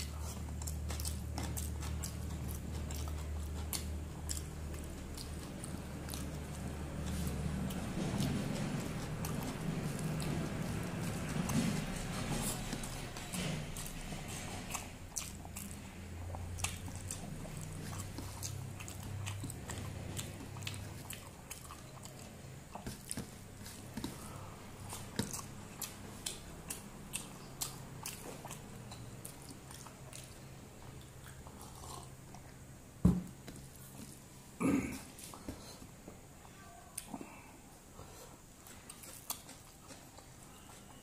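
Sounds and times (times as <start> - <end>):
close-up chewing and mouth sounds: 0.0 - 41.0.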